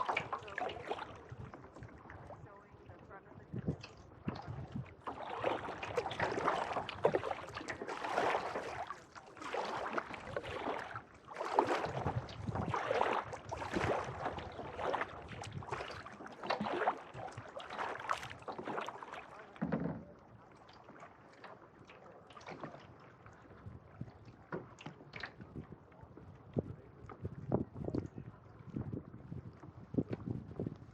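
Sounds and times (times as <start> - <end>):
kayak paddle splashing in water: 0.0 - 27.6.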